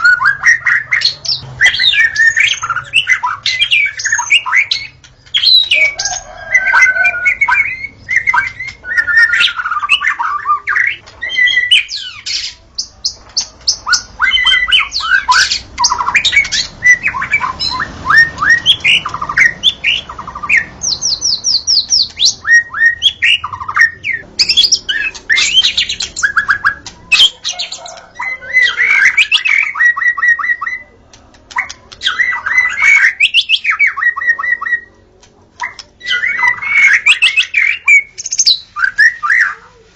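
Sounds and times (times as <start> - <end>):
songbird whistling and trilling: 0.0 - 35.0, 35.6 - 39.6.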